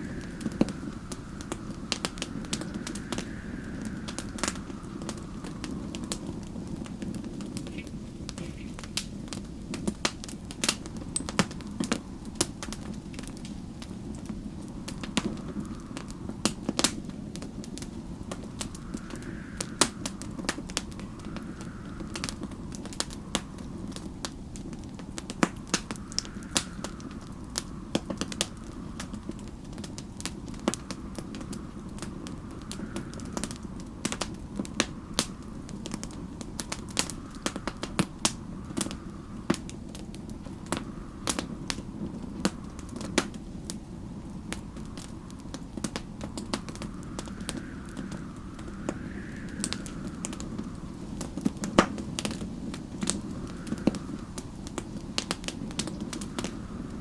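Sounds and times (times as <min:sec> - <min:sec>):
wind howling: 0:00.0 - 0:57.0
wood fire crackling and popping: 0:00.0 - 0:57.0.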